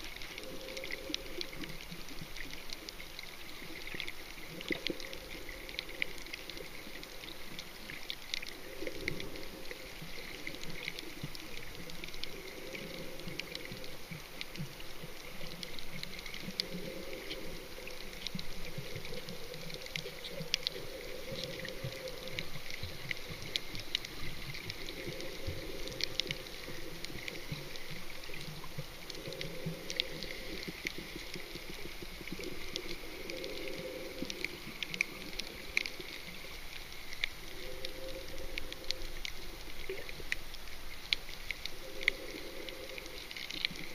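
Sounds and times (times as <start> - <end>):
underwater crackling: 0.0 - 43.9
water bubbling: 0.0 - 43.9.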